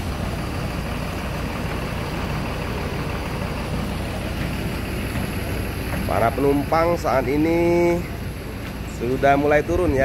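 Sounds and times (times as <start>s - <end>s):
bus diesel engine idling: 0.0s - 10.0s.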